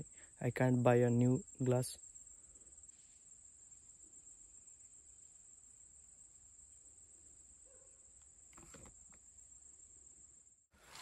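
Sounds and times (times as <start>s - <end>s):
insects droning in grass: 0.0s - 11.0s.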